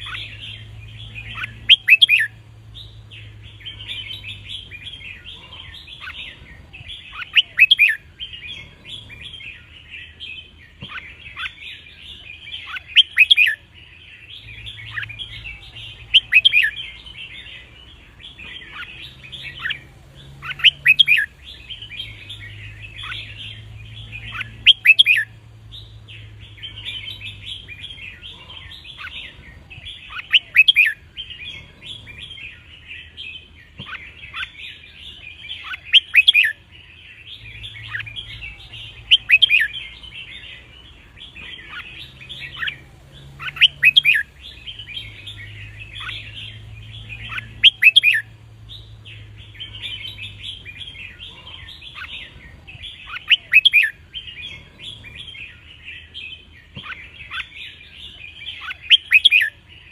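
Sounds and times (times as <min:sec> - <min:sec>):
whistled bird song phrases: 0:00.0 - 0:36.6, 0:37.2 - 0:59.9
bird twittering and chatter: 0:00.0 - 0:59.9.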